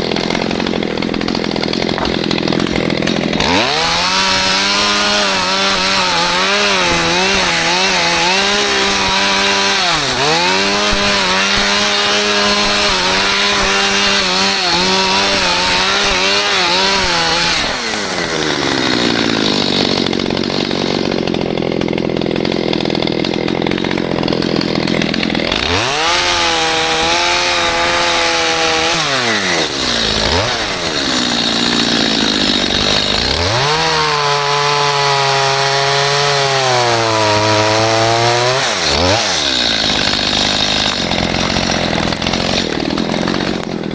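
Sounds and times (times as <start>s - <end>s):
chainsaw revving and idling: 0.0s - 43.9s.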